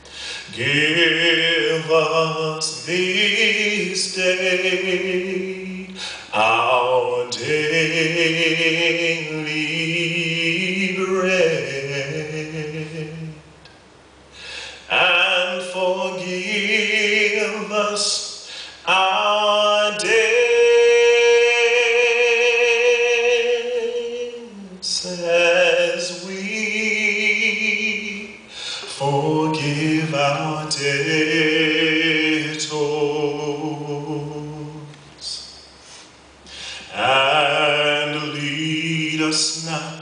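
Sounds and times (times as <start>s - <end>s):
man singing into a microphone: 0.0s - 13.5s, 14.5s - 35.7s, 36.6s - 40.0s.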